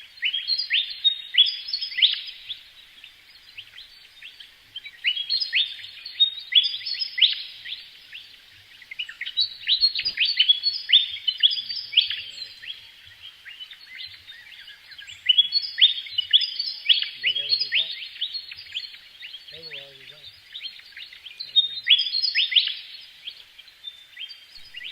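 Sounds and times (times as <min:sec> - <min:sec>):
flock of small birds chirping: 0:00.0 - 0:24.9.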